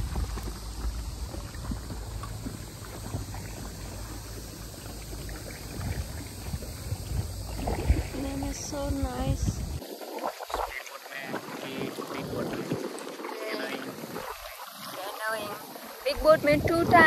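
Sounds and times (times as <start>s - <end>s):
water splashing around boat: 0.0s - 17.0s
wind rumbling on microphone: 0.0s - 17.0s.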